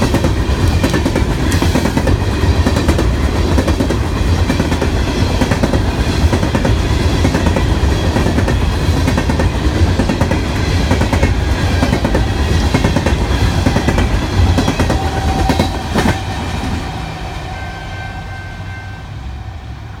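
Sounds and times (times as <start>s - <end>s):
steel wheels clacking on rails: 0.0s - 19.8s
train rumbling past: 0.0s - 20.0s.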